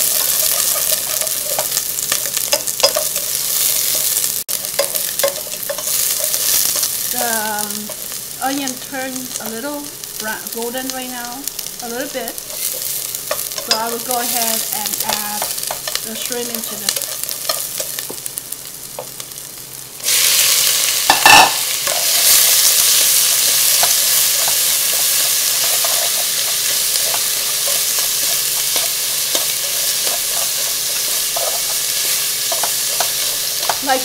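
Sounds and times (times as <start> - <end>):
shallots frying in oil: 0.0 - 34.0
shrimp sizzling loudly: 0.0 - 34.0.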